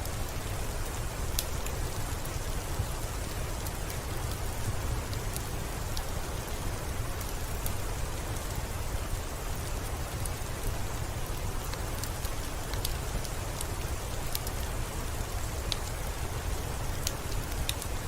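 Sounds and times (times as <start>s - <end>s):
rain on a window pane: 0.0s - 18.0s.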